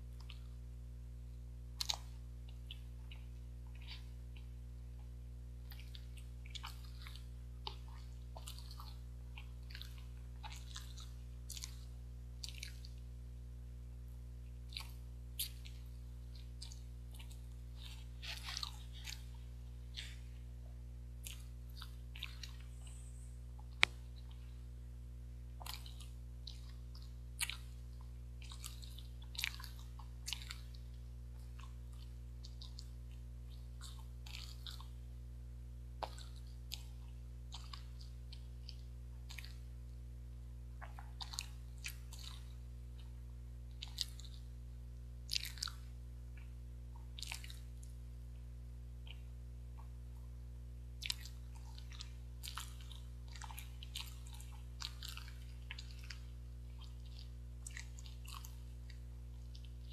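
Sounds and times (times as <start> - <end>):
person chewing wetly: 0.0 - 0.8, 1.4 - 13.3, 14.4 - 24.8, 25.5 - 35.1, 35.9 - 59.9
low electrical hum: 0.0 - 59.9.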